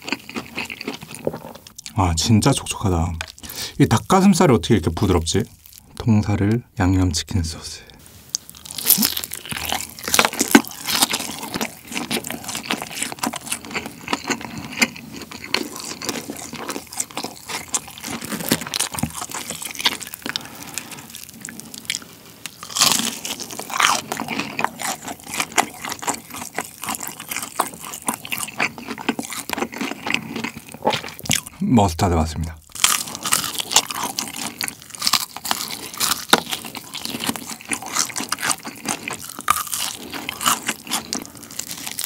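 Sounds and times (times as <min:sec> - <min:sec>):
crunching and chewing fried chicken: 0:00.0 - 0:06.6, 0:08.3 - 0:42.0.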